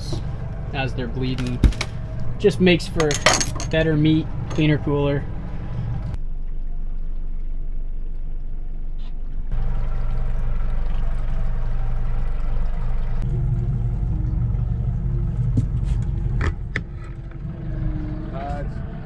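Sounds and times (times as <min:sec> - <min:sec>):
outboard motor droning: 0:00.0 - 0:03.1, 0:03.7 - 0:19.0.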